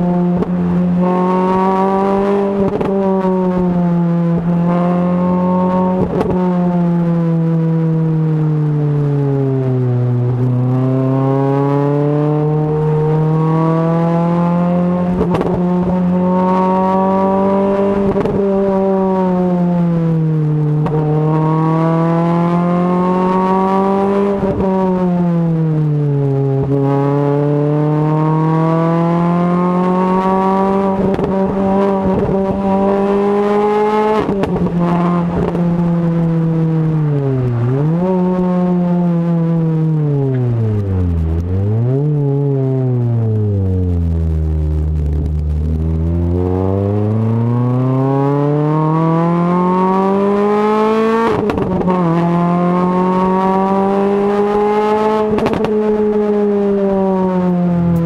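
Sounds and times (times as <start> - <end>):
car engine revving hard: 0.0 - 7.6, 10.3 - 20.0, 20.8 - 25.2, 26.5 - 44.0, 44.7 - 58.0.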